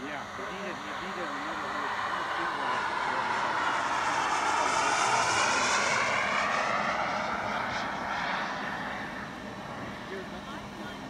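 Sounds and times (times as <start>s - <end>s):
model jet flying past: 0.0s - 11.0s.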